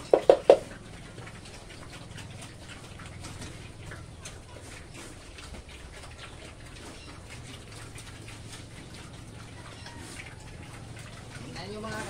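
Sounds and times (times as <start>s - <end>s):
pigs smacking and chewing: 0.0s - 12.0s.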